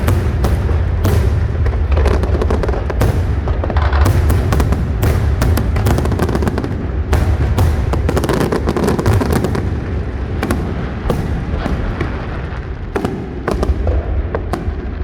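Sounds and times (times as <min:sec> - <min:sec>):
fireworks bangs and crackles: 0:00.0 - 0:15.0
low rumble of shell bursts: 0:00.0 - 0:15.0.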